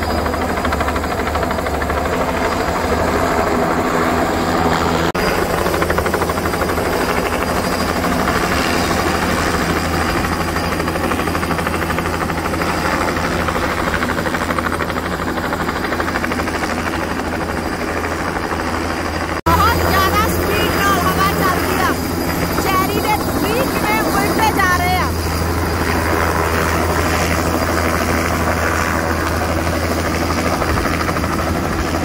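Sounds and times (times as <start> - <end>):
helicopter rotor chopping: 0.0 - 32.0.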